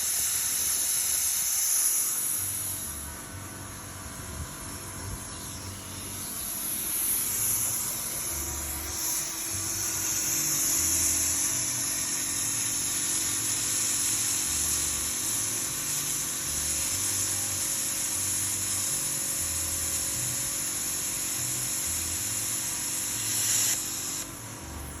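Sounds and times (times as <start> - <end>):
plasma cutter arc hissing: 0.0 - 25.0.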